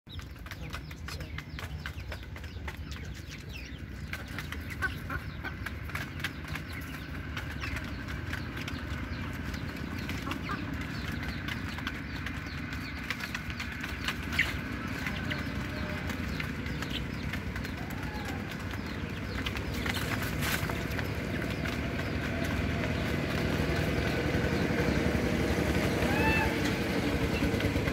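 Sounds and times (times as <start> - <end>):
chicks peeping and chirping: 0.1 - 27.9.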